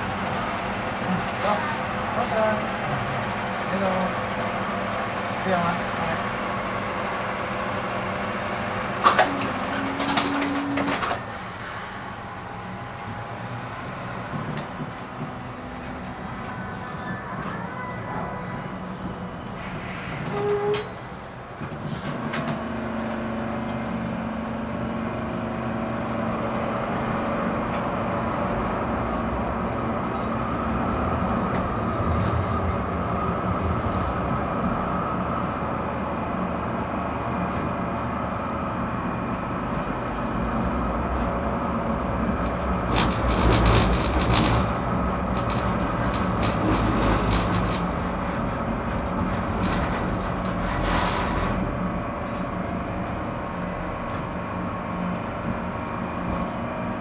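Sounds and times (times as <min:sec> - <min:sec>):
tram clattering: 0:00.0 - 0:57.0
tram wheels humming on rails: 0:00.0 - 0:57.0.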